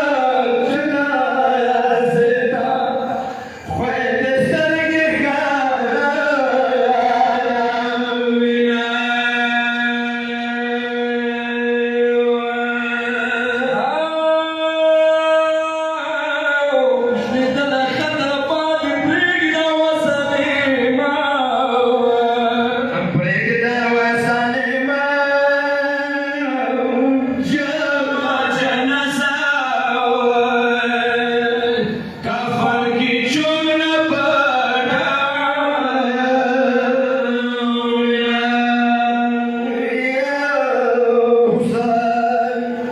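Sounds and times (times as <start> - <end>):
man chanting in long held notes: 0.0 - 42.9.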